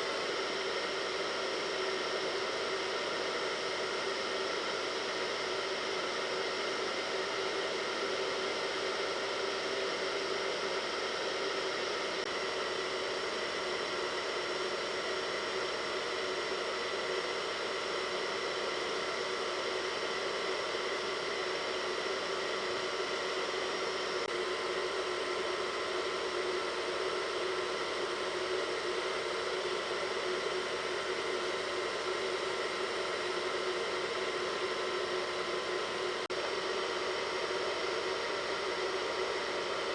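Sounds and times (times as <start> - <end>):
faint steady whine: 0.0 - 39.9
hair dryer blowing: 0.0 - 39.9.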